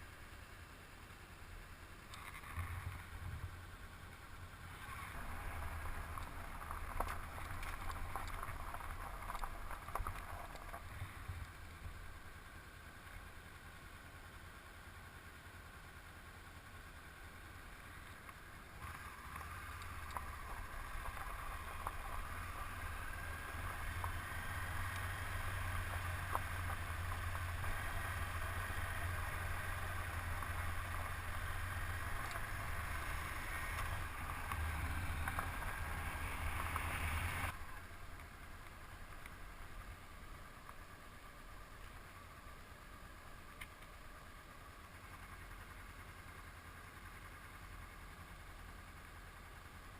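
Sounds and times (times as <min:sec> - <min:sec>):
motorcycle engine running: 0:00.0 - 0:49.9
road and wind noise: 0:00.0 - 0:49.9.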